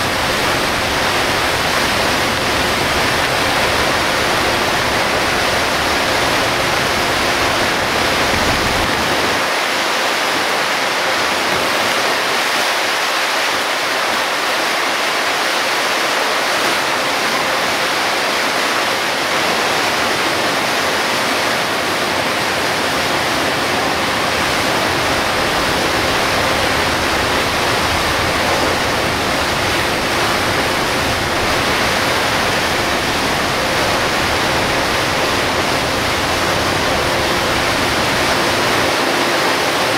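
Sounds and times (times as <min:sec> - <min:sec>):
torrential rain hissing: 0:00.0 - 0:39.9
tyres through standing water: 0:00.0 - 0:39.9.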